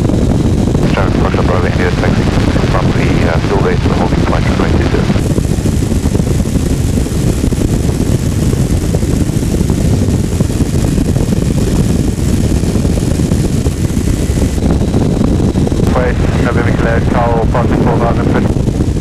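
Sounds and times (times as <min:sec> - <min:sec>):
aircraft engine running: 0:00.0 - 0:19.0
wind buffeting microphone: 0:00.0 - 0:19.0.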